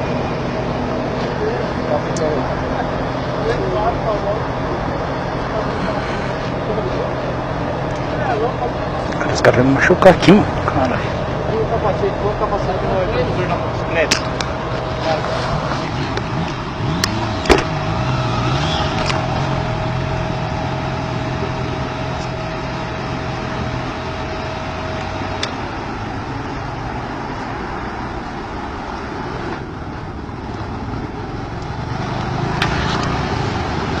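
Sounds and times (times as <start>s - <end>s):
steady whine: 0.0s - 34.0s
vehicle engine running: 0.0s - 34.0s.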